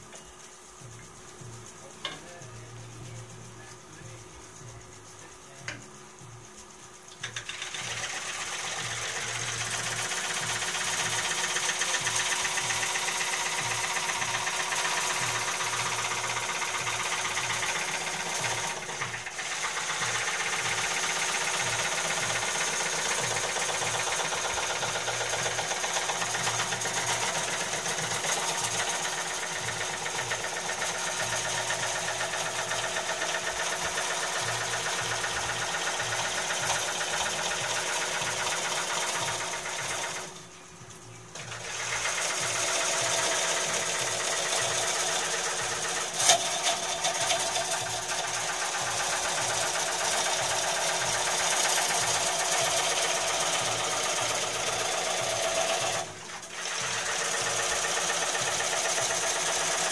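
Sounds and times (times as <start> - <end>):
gouge cutting wood on lathe: 7.2 - 40.4, 41.4 - 59.9.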